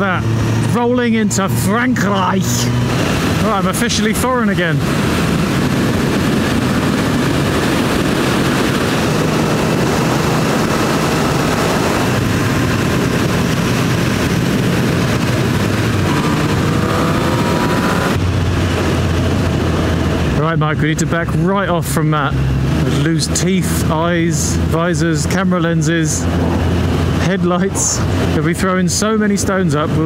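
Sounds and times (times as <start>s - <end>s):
motorcycle engine running: 0.0s - 30.0s
wind rush: 0.0s - 30.0s.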